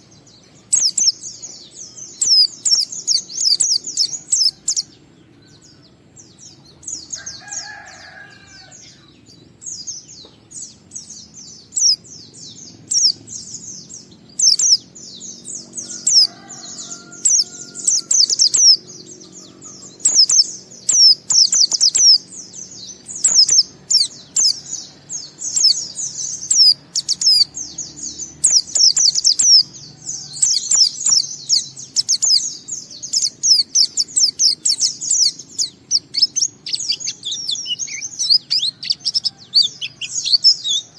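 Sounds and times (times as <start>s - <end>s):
bird chirping and warbling: 0.0s - 40.9s.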